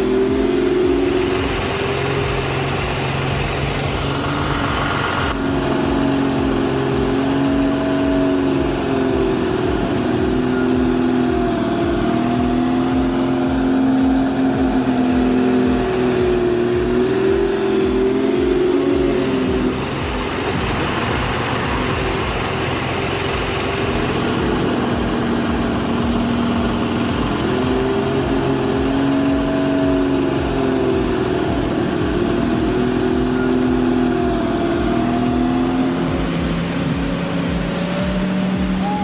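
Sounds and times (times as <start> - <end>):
truck engine running: 0.0 - 39.0.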